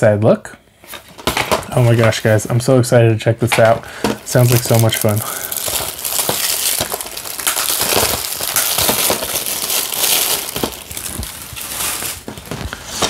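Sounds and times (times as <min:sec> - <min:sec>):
plastic wrap crinkling: 0:00.9 - 0:02.8, 0:03.4 - 0:13.0.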